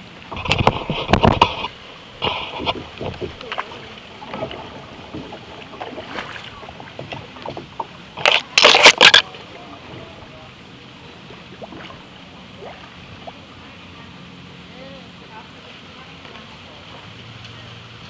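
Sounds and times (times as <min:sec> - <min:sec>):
flowing river water: 0:00.0 - 0:18.0
paddle splashes and drips: 0:00.0 - 0:18.0.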